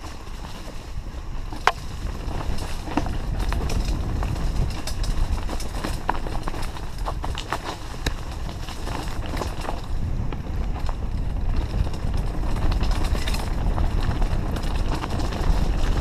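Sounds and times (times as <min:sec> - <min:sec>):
bike clicks and knocks: 0:00.0 - 0:16.0
tyres rolling over loose rock: 0:00.0 - 0:16.0
wind on microphone: 0:00.0 - 0:16.0.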